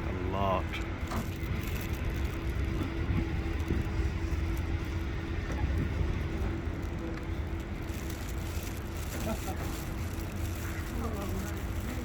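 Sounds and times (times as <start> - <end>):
city background rumble: 0.0 - 12.0
faint constant hum: 0.0 - 12.0.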